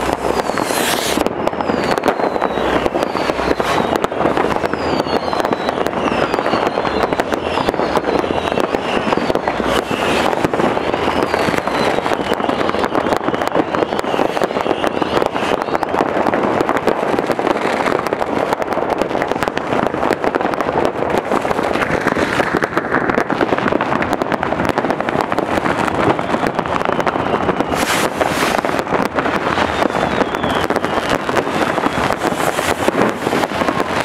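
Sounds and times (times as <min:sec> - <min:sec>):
fireworks and firecrackers crackling: 0:00.0 - 0:34.0.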